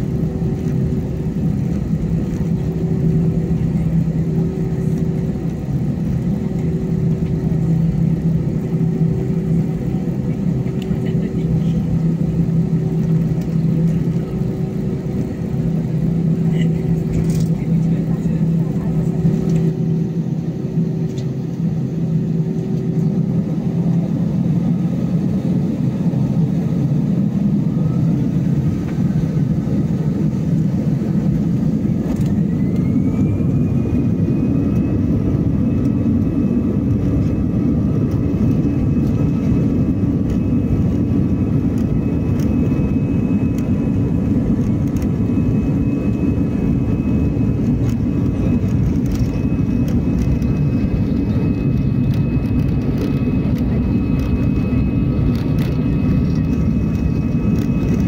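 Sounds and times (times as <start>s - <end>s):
jet engine rumble: 0.0s - 58.0s
jet engine whine: 0.0s - 58.0s.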